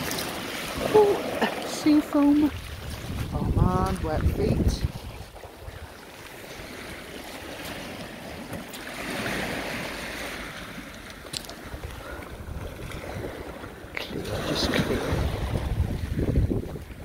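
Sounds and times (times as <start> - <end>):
small waves washing on pebble shore: 0.0 - 17.0.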